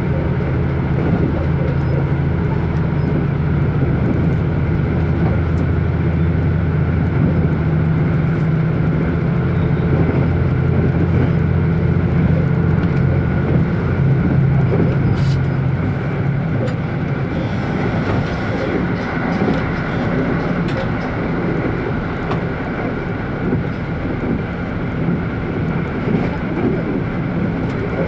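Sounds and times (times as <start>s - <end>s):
train engine drone: 0.0s - 28.0s
wheels rumbling on rails: 0.0s - 28.0s.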